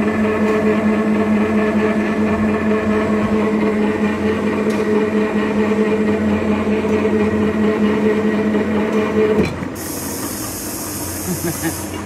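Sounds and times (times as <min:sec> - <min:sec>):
thread rolling machine humming: 0:00.0 - 0:12.0.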